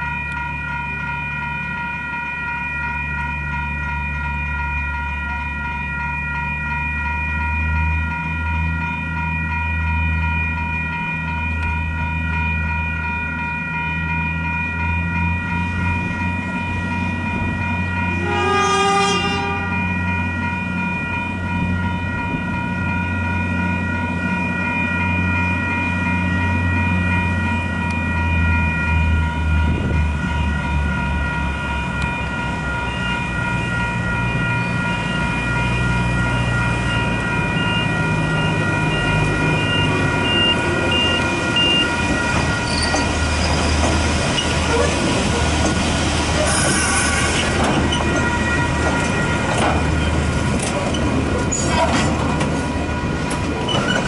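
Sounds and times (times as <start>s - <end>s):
diesel locomotive rumbling: 0.0s - 54.0s
level crossing alarm ringing: 0.0s - 54.0s.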